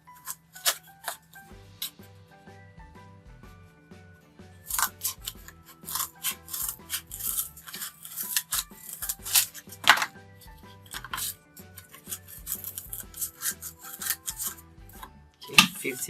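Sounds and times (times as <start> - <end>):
scissors cutting cardboard: 0.0 - 2.0, 4.7 - 16.0
background music: 0.0 - 16.0.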